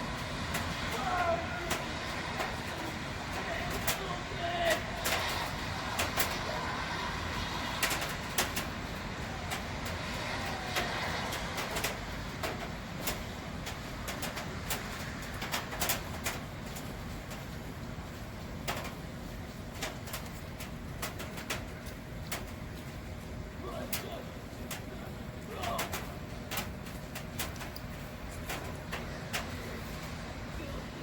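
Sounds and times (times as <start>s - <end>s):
raindrops tapping on microphone: 0.0s - 30.9s
rain: 0.0s - 31.0s
traffic: 0.0s - 31.0s.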